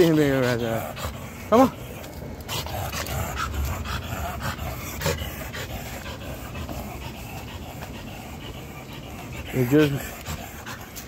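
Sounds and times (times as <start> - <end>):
dog panting hard: 0.0 - 11.0.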